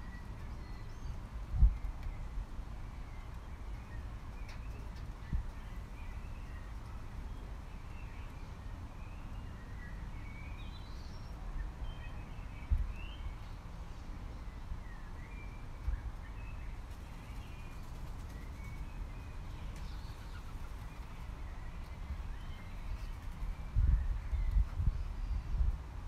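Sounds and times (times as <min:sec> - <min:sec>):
birds chirping: 0:00.0 - 0:25.7.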